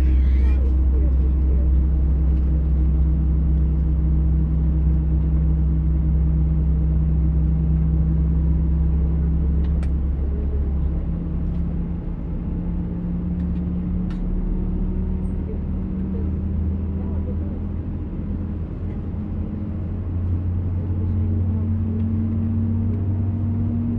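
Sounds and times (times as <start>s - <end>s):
jet engine rumble and hum: 0.0s - 23.9s.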